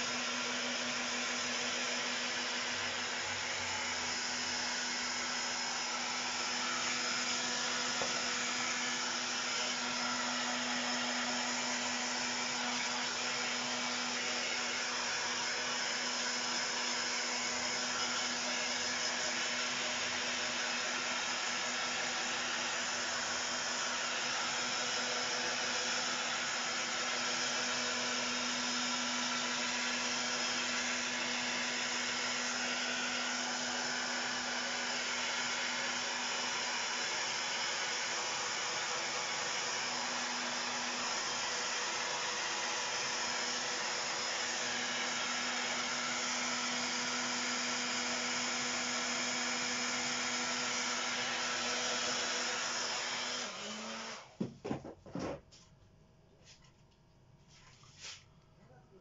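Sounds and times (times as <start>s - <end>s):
hair dryer blowing: 0.0s - 54.9s.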